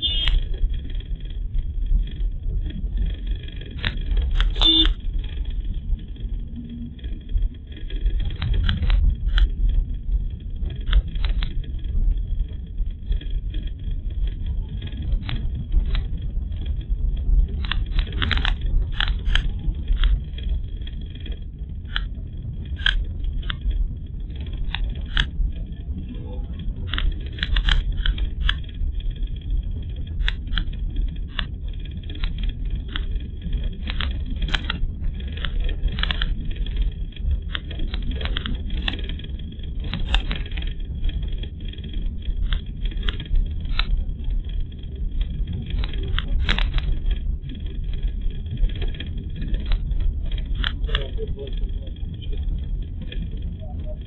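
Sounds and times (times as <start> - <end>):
clicks and rattles: 0.0 - 54.0
road rumble inside car: 0.0 - 54.0.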